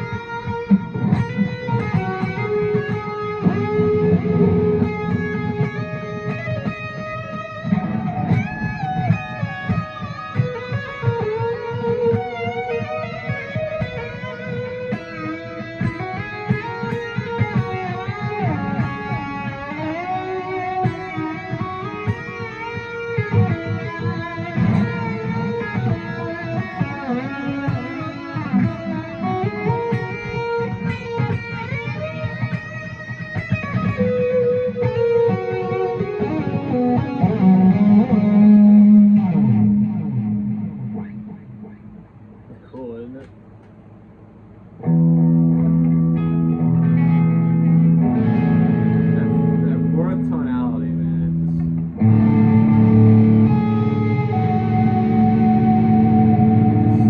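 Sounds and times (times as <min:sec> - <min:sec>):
electric guitar melody: 0:00.0 - 0:43.3, 0:44.0 - 0:57.0
low rhythmic accompaniment: 0:00.0 - 0:57.0.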